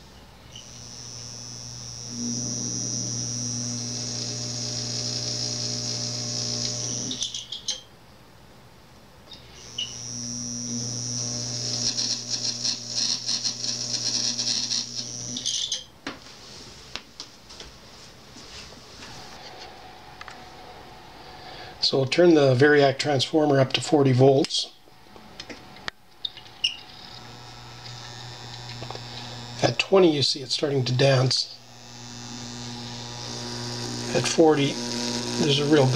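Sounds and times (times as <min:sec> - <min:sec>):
electromagnet humming with whine: 0:00.0 - 0:07.8, 0:09.3 - 0:15.9, 0:18.4 - 0:35.9.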